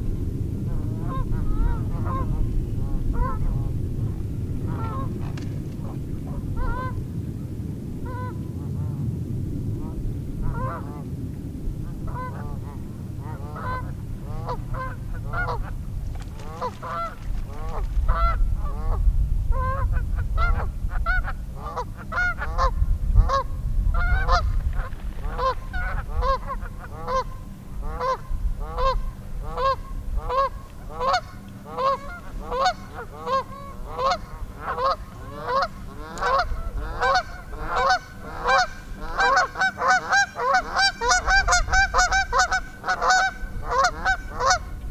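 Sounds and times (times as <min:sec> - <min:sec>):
low rumble: 0:00.0 - 0:44.9
geese honking: 0:00.7 - 0:07.0, 0:12.1 - 0:19.0, 0:20.4 - 0:44.8.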